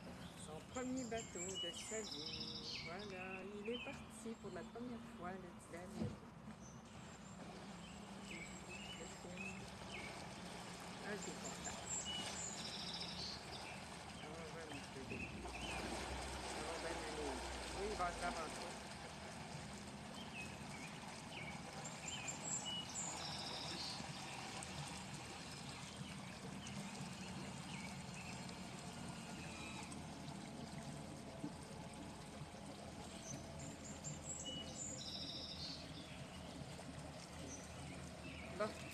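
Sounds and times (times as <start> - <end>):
birds chirping: 0.0 - 38.9
boat engine low hum: 0.0 - 38.9
water trickling and lapping: 0.0 - 38.9.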